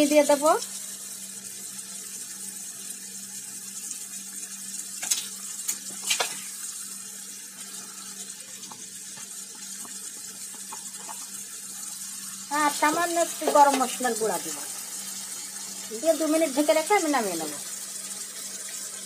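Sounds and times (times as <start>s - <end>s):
curry sizzling in a frying pan: 0.0s - 19.0s.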